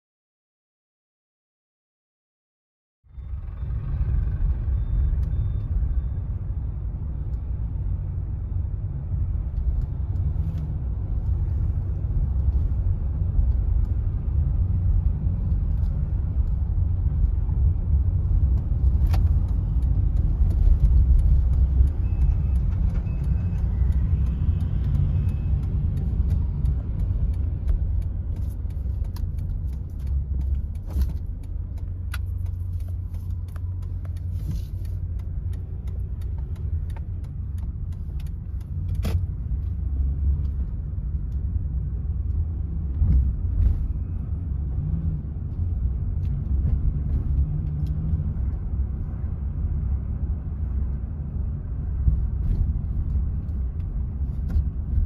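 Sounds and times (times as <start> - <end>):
car engine and tyre rumble: 3.0 - 55.0.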